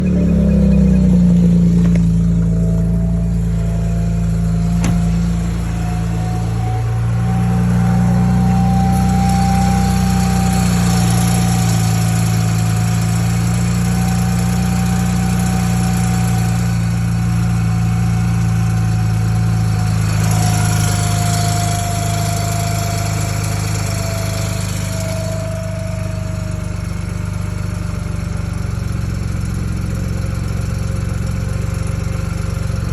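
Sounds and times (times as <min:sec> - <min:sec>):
car engine idling: 0:00.0 - 0:32.9
thin steady whine: 0:00.4 - 0:28.1.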